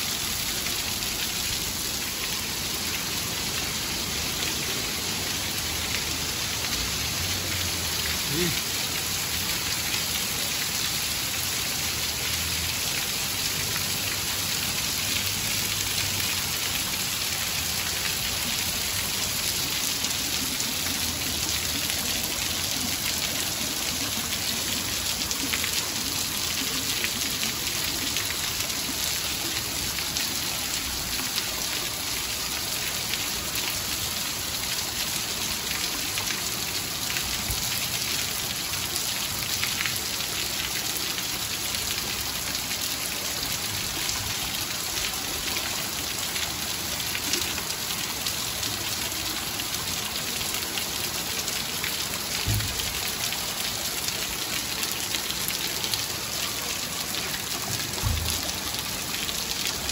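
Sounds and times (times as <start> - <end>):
heavy rain: 0.0 - 59.9
water streaming off roof: 0.0 - 59.9
water pattering on wet ground: 0.2 - 59.9.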